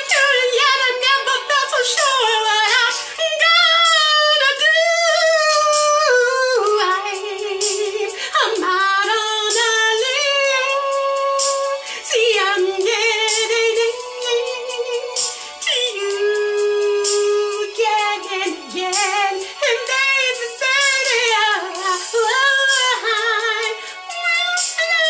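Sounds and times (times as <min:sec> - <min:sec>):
woman singing vocal runs: 0:00.0 - 0:25.0.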